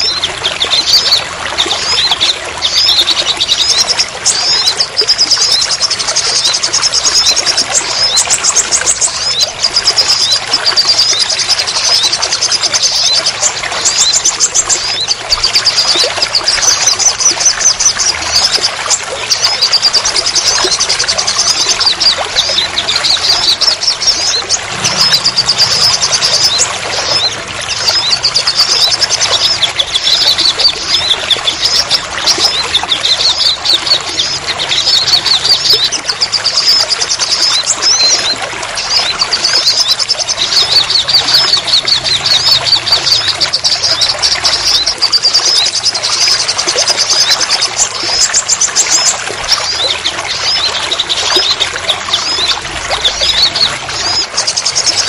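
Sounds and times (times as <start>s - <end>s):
running water: 0.0s - 55.0s
small birds chirping: 0.0s - 55.0s.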